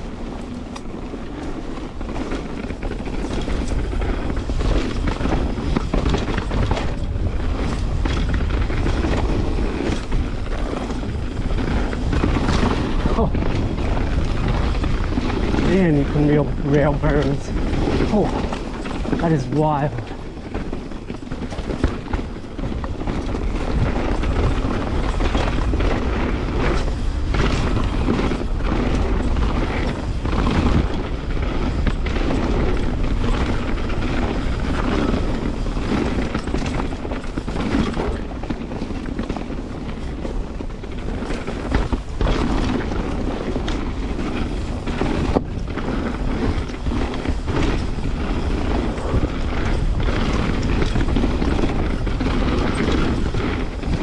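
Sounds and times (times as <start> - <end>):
bike knocks and rattles: 0.0 - 54.0
bike tyres on dirt trail: 0.0 - 54.0
wind rushing over microphone: 0.0 - 54.0.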